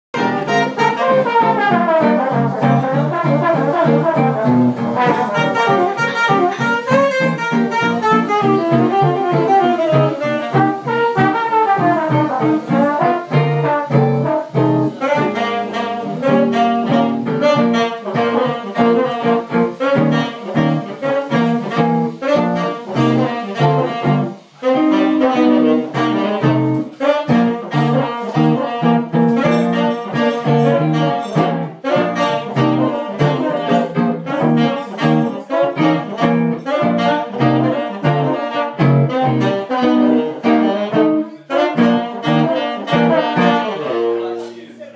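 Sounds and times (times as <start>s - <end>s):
trombone: 0.1s - 44.5s
saxophone: 0.1s - 44.9s
electric guitar low notes: 0.2s - 44.4s.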